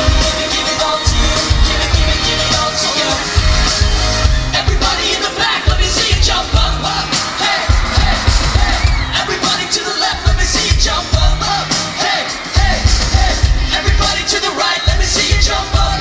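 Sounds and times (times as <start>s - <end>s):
audience yelling: 0.0s - 16.0s
bass: 0.0s - 16.0s
person singing: 0.0s - 16.0s
pop band playing live: 0.0s - 16.0s.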